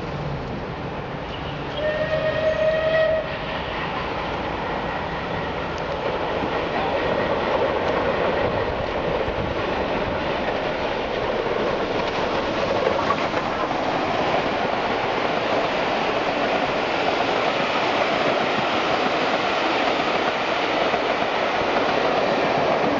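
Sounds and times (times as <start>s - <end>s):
steam train passing: 0.0s - 22.9s
train wheels on rails: 0.0s - 22.9s.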